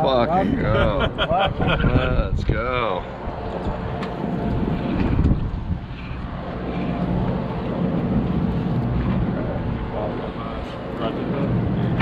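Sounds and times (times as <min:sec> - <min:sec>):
boat engine rumbling: 0:00.0 - 0:12.0
wind buffeting microphone: 0:00.0 - 0:12.0.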